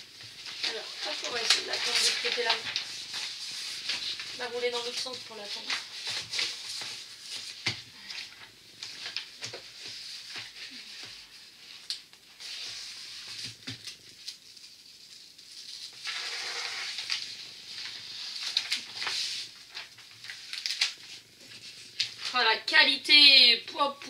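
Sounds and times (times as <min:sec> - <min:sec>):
paper and canvas rustling: 0:00.0 - 0:22.4.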